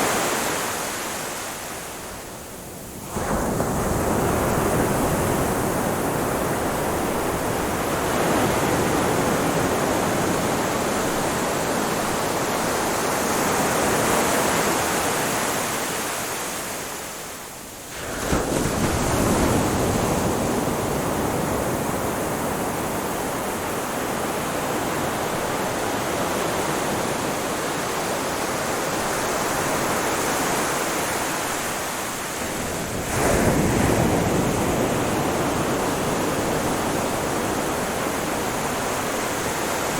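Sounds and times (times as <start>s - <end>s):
waves washing onto shore: 0.0s - 39.9s.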